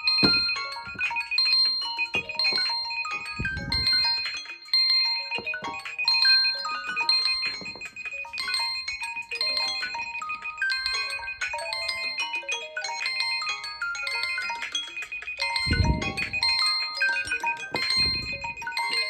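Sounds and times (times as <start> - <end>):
smartphone ringtones: 0.0 - 19.0.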